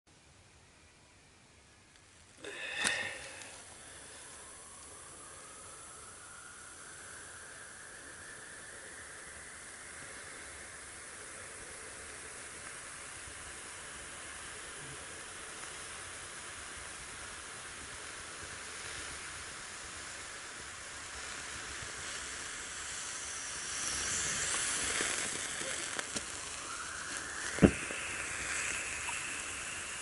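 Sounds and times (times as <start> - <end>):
burning hiss: 1.9 - 30.0.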